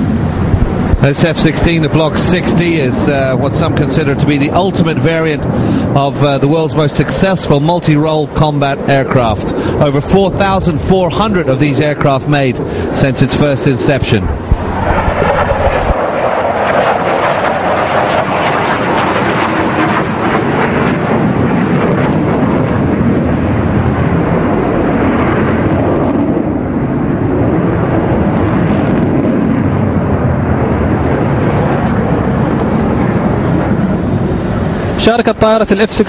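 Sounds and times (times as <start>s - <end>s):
fighter jet engine roaring overhead: 0.0s - 36.0s.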